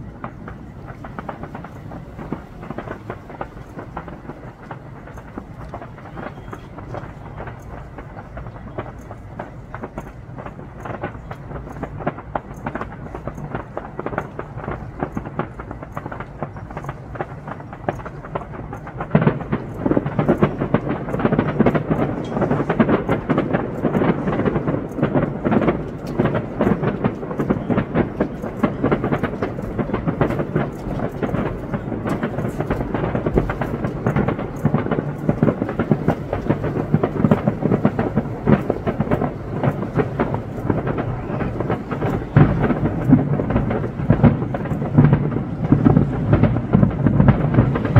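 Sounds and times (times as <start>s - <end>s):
fireworks booming and crackling: 0.0s - 47.9s.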